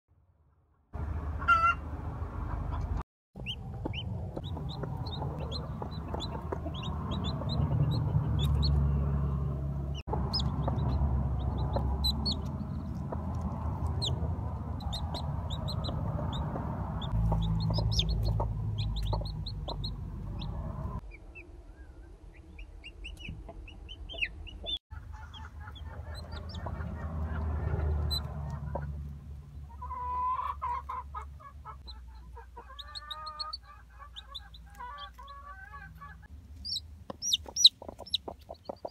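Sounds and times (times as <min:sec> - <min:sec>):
hens clucking: 0:02.4 - 0:08.8, 0:10.0 - 0:21.0, 0:23.2 - 0:38.9
chicks peeping: 0:02.4 - 0:09.3, 0:09.9 - 0:38.9.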